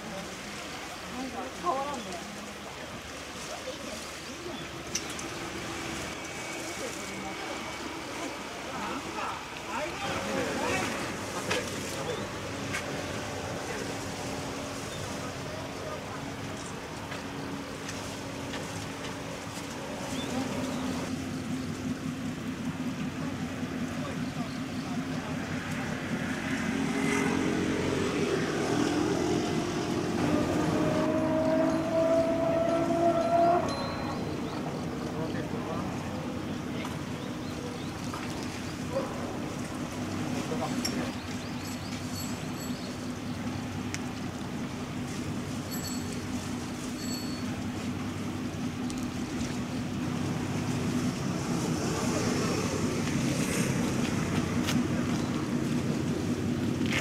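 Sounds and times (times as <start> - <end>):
waves washing: 0.0 - 57.0
engine drone: 2.4 - 57.0.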